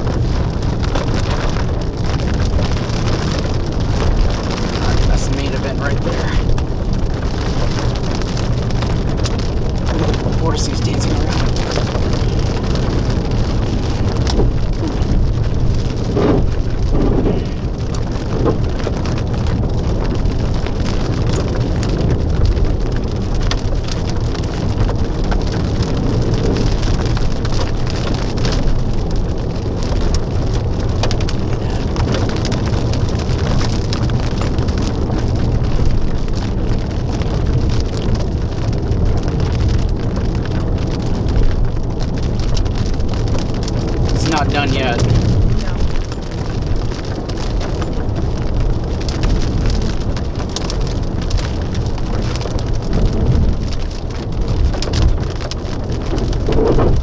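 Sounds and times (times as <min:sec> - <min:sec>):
rain: 0:00.0 - 0:57.0
raindrop ticks: 0:00.0 - 0:57.0
wind rumble on microphone: 0:00.0 - 0:57.0.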